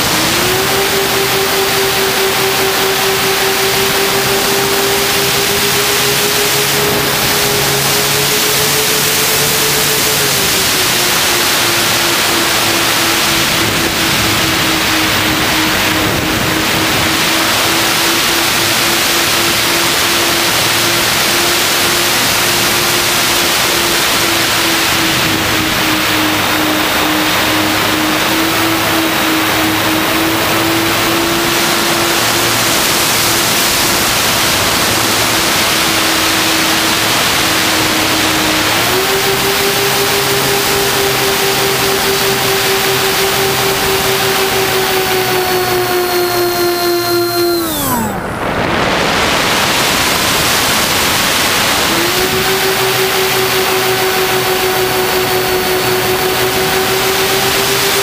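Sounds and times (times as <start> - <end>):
motor and propeller drone: 0.0 - 58.0
wind rushing over microphone: 0.0 - 58.0.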